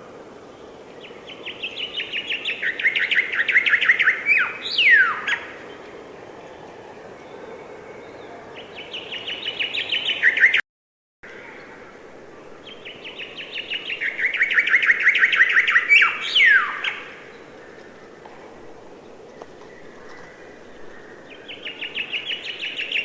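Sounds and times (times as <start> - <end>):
songbird singing: 0.0 - 10.6, 11.3 - 23.0
steady background hiss: 0.0 - 10.6, 11.3 - 23.0.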